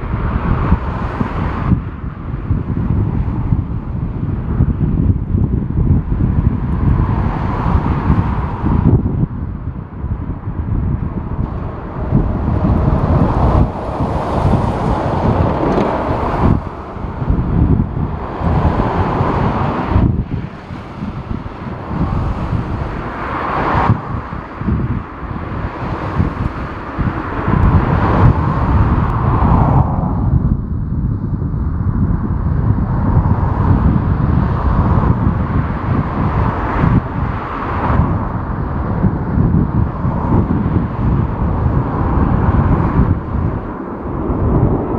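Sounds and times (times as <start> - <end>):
jet airliner noise: 0.0 - 31.0, 31.8 - 44.9
gusty wind buffeting microphone: 0.0 - 44.9.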